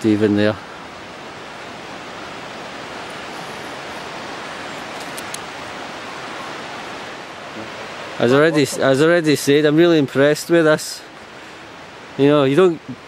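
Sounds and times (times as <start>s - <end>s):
forest rushing noise: 0.0s - 13.0s.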